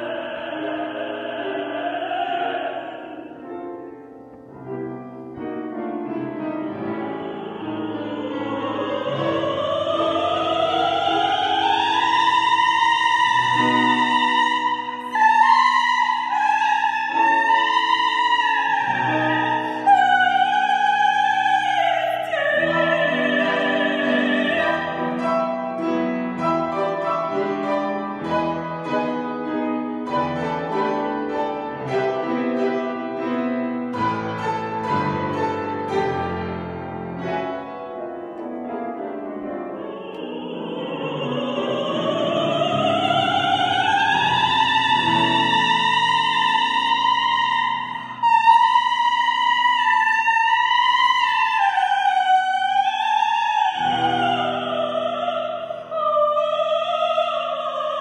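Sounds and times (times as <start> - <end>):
operatic soprano singing: 0.0 - 4.1, 5.3 - 58.0
piano accompaniment: 0.0 - 58.0.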